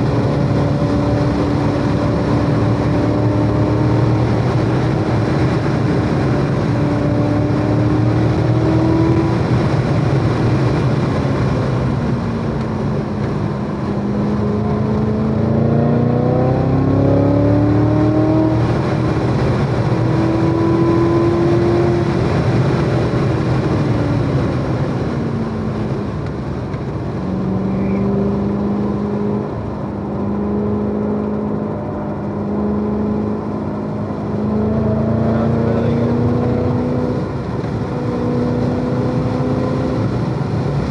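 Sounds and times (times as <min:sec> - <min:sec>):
car engine accelerating and braking: 0:00.0 - 0:40.9.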